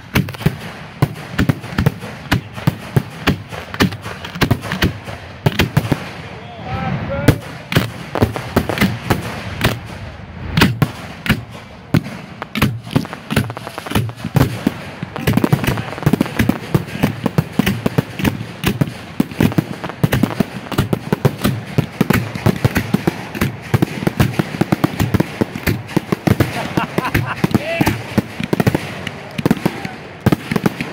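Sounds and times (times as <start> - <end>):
fireworks launches and bursts: 0.0 - 30.9.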